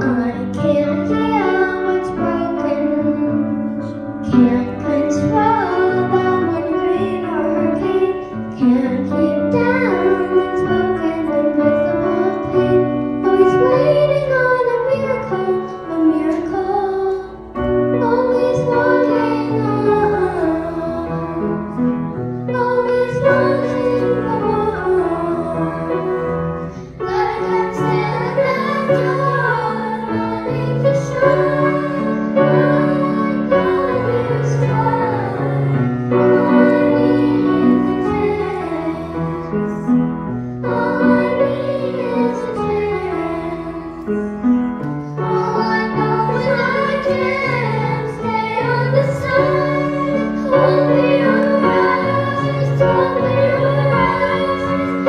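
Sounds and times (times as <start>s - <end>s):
girl singing into a microphone: 0.0s - 21.7s, 22.4s - 39.9s, 45.1s - 55.0s
piano accompaniment: 0.0s - 55.0s.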